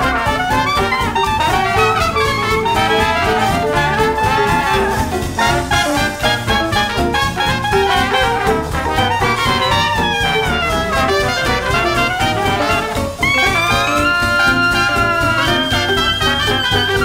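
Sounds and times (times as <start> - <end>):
upbeat jazz with brass: 0.0 - 17.0.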